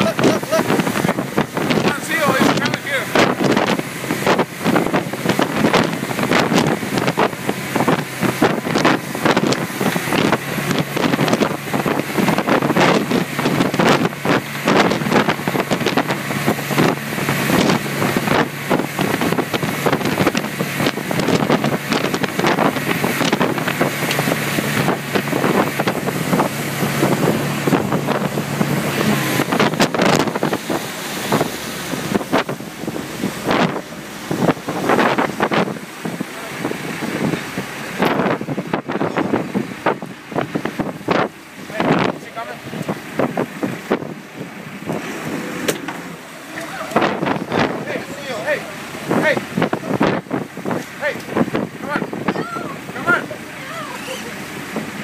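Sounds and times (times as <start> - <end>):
boat engine droning: 0.0 - 55.0
wind buffeting microphone: 0.0 - 55.0.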